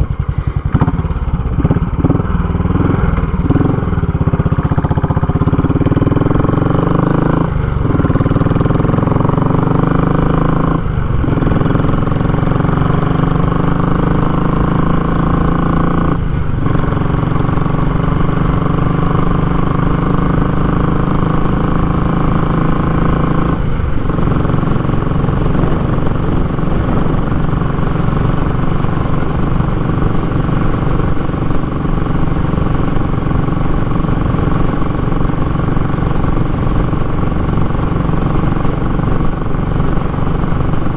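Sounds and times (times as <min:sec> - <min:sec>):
motorcycle engine exhaust: 0:00.0 - 0:40.9.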